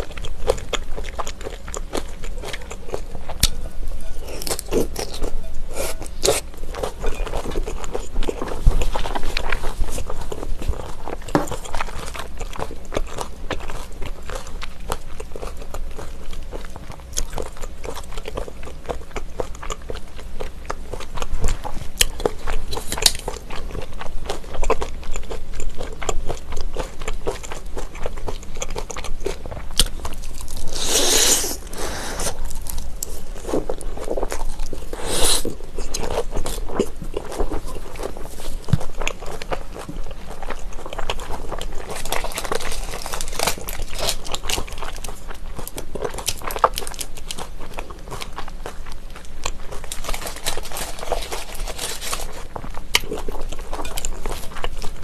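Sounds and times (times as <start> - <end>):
wet crunchy chewing: 0.0 - 55.0.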